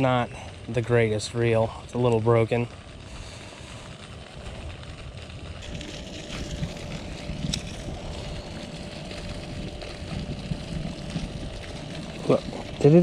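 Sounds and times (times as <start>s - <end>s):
faint steady hum: 0.0s - 13.0s
low rumble: 0.0s - 13.0s.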